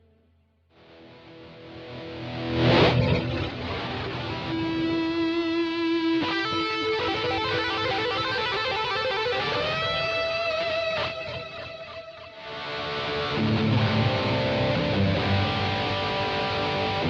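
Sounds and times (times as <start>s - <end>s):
electric guitar with delay: 0.8s - 17.0s.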